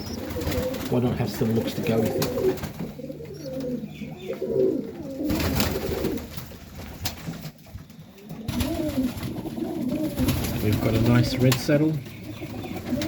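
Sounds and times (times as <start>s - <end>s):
pigeons cooing: 0.0s - 6.4s, 7.7s - 13.0s.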